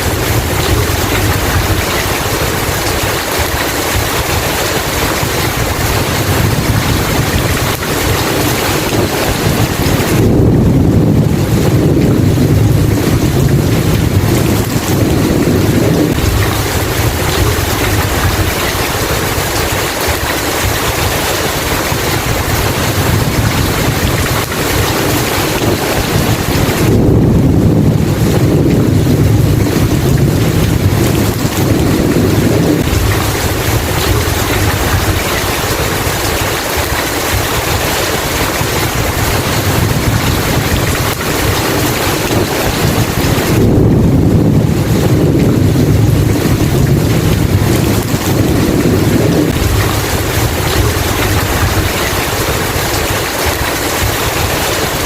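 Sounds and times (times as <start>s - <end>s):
heavy rain: 0.0s - 55.0s
thunder rumbling: 0.0s - 55.0s.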